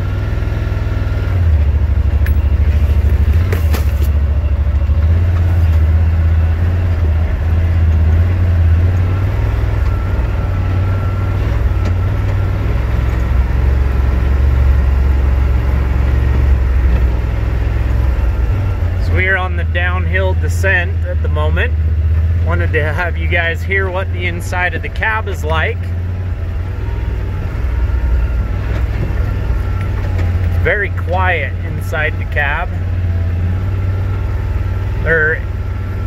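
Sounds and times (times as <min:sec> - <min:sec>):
engine droning: 0:00.0 - 0:36.0.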